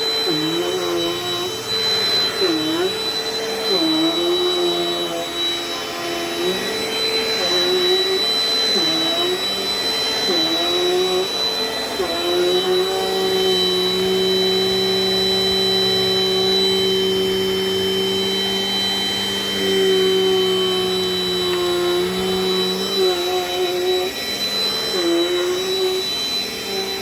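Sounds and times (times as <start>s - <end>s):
vacuum cleaner motor whine: 0.0s - 27.0s.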